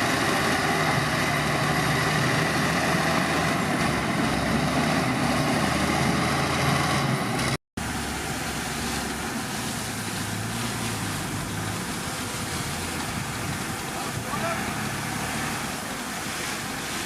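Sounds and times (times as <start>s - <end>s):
heavy diesel machinery engine running: 0.0s - 17.0s.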